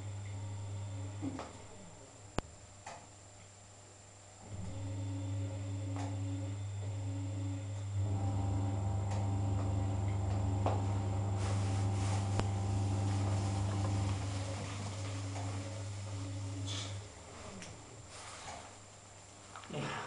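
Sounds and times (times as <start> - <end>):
washing machine motor hum: 0.0 - 3.4, 4.1 - 20.0.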